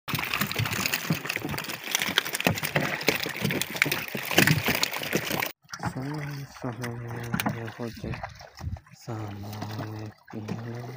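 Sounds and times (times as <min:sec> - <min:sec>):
fish flopping in a boat: 0:00.1 - 0:10.9.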